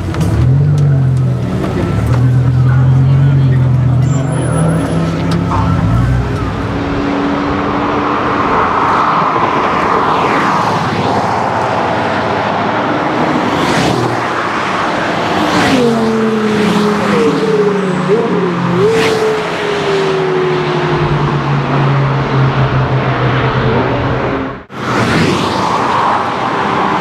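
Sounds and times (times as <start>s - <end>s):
group of sports cars driving past: 0.0s - 27.0s.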